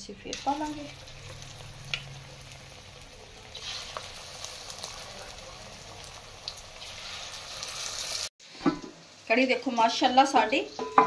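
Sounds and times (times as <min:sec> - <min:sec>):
deep-frying sizzle and crackles: 0:00.0 - 0:10.8.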